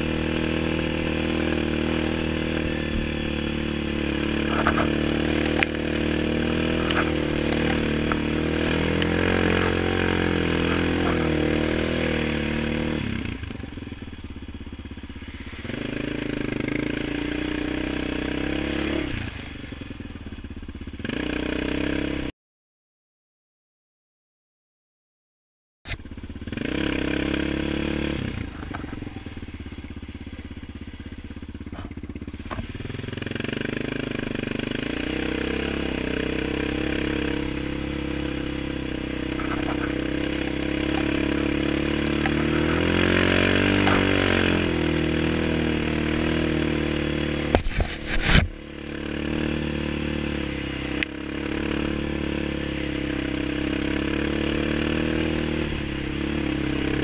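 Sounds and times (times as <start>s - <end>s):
quad engine revving: 0.0s - 22.3s, 25.9s - 57.0s.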